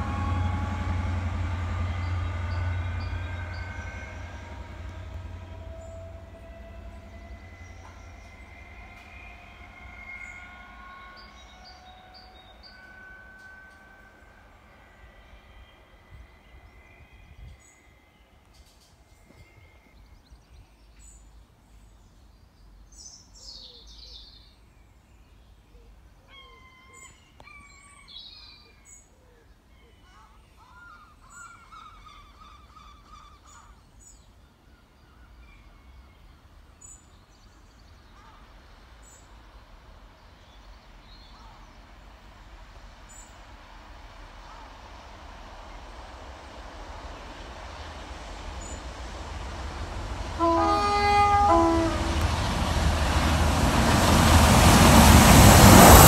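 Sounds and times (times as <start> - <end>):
train rumble: 0.0 - 24.1, 30.3 - 56.0.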